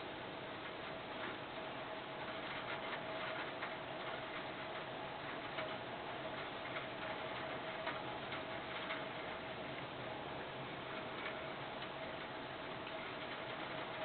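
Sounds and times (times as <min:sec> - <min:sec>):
faint steady hum: 0:00.0 - 0:14.0
rain hissing: 0:00.0 - 0:14.0.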